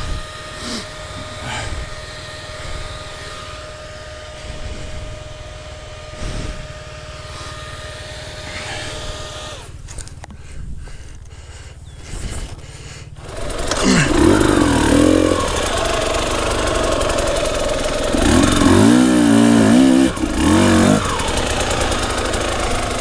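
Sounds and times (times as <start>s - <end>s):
dirt bike engine idling: 0.0s - 23.0s.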